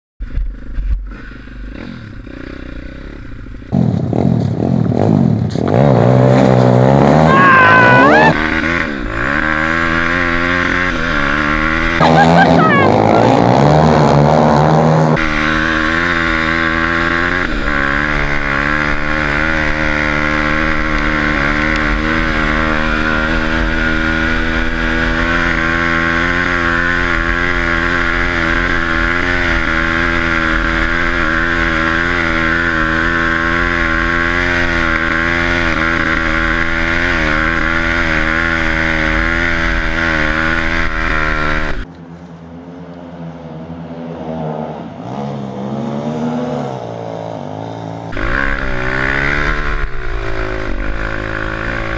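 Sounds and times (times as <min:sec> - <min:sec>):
dirt bike engine revving: 0:00.5 - 0:41.9, 0:45.1 - 0:51.9.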